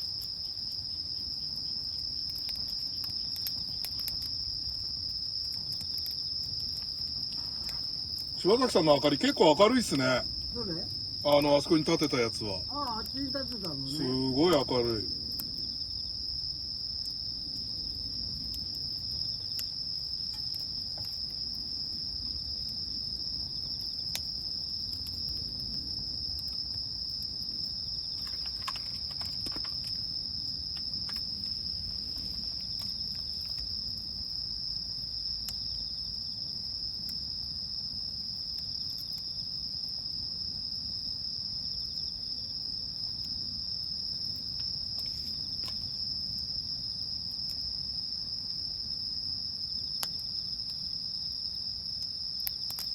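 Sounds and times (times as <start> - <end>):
campfire crackles: 0.0 - 52.9
crickets chirring: 0.0 - 52.9.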